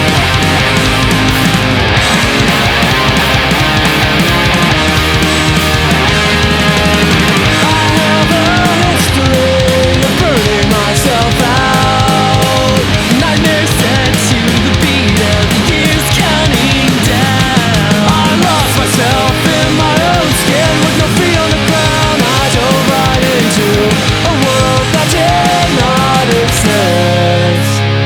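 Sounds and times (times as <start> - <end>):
drums and cymbals: 0.0 - 27.9
bass: 0.0 - 28.0
distorted electric guitars: 0.0 - 28.0.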